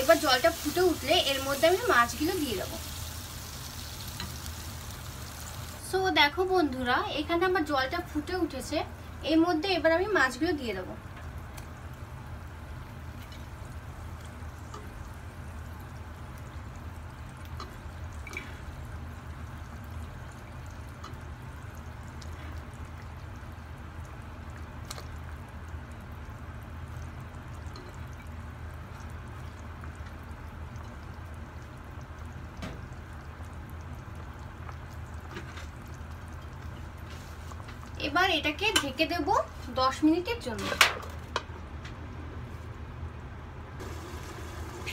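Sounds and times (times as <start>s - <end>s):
gravy bubbling in a pan: 0.0s - 40.6s.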